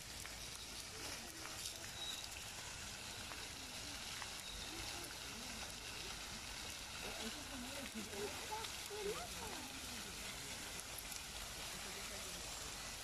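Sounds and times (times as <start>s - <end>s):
outdoor background hiss: 0.0s - 13.0s
faint distant voices: 0.4s - 13.0s.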